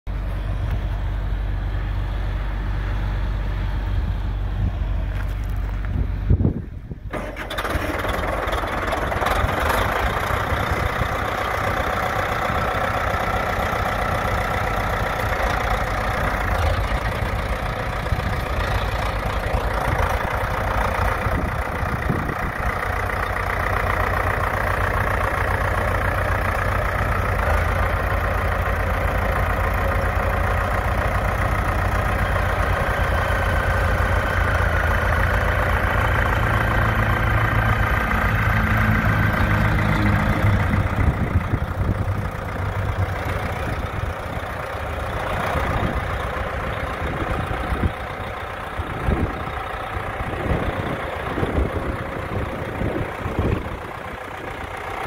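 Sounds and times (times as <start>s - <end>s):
tractor engine running: 0.1s - 55.0s.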